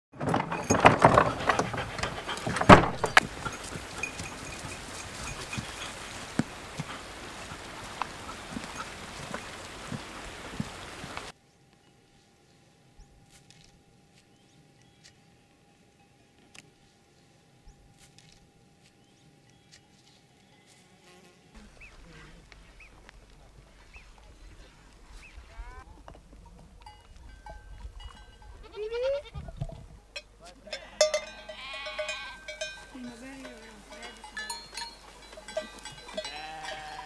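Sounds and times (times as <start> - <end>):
outdoor background noise: 0.1 - 37.0.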